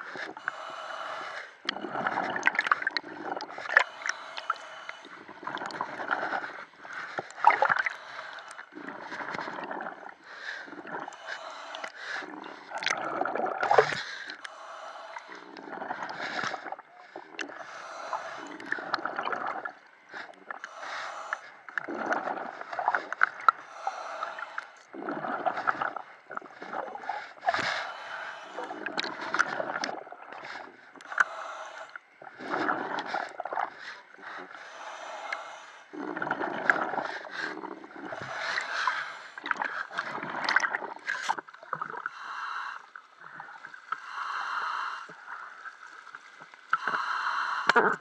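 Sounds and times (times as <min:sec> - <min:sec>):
water bubbling underwater: 0:00.0 - 0:48.0
water sloshing: 0:01.7 - 0:42.1.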